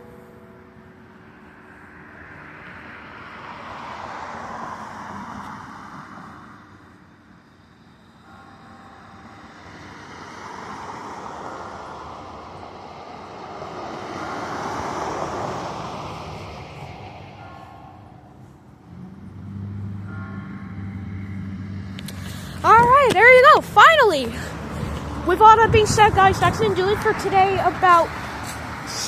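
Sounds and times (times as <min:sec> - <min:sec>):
cars passing on a road: 0:00.0 - 0:29.0.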